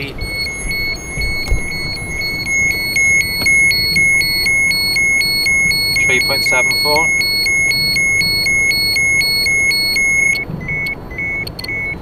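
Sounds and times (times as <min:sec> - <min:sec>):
dosimeter alarm beeping rapidly: 0:00.0 - 0:12.0.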